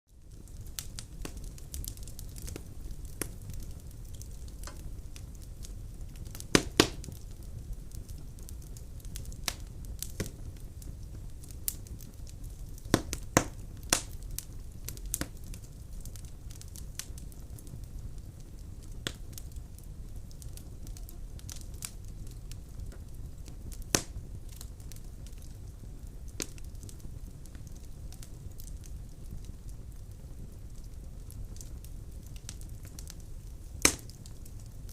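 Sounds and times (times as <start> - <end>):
fire crackling and popping: 0.1 - 34.9
fire low rumble: 0.1 - 34.9.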